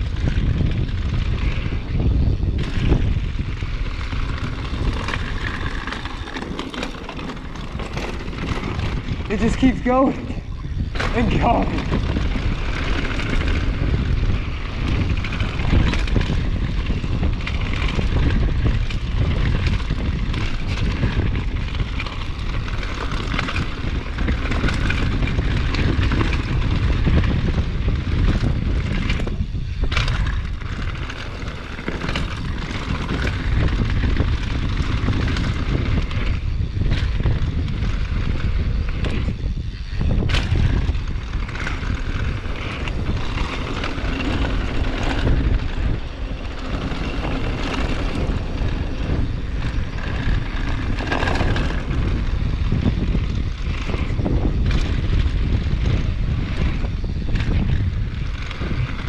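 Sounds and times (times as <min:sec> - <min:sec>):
bike knocking and rattling: 0:00.0 - 0:59.0
tyre and trail noise: 0:00.0 - 0:59.0
wind rumbling on microphone: 0:00.0 - 0:59.0.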